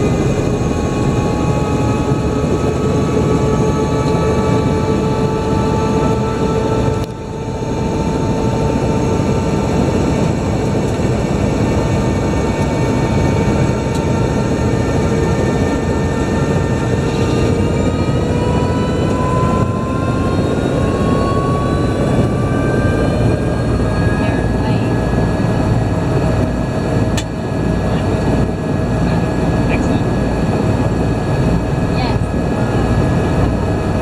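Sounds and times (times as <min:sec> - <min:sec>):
helicopter engine and rotor: 0:00.0 - 0:34.0.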